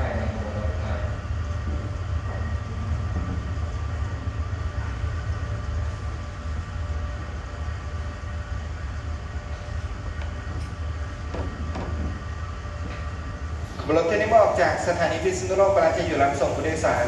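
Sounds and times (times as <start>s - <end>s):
constant hum: 0.0s - 17.0s
diesel engines idling: 0.0s - 17.0s.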